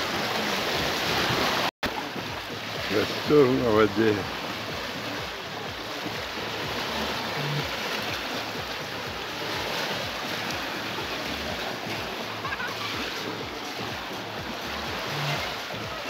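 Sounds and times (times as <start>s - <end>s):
small waves breaking on shore: 0.0s - 16.0s.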